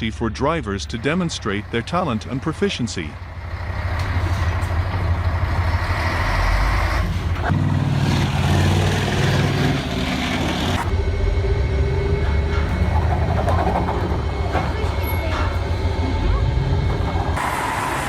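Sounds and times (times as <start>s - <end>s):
truck diesel engine under load: 0.0s - 18.0s.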